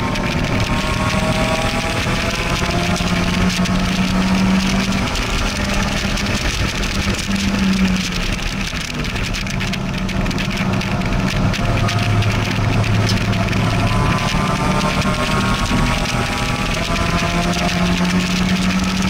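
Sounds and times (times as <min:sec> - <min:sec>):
car engine pulling hard: 0:00.0 - 0:19.0.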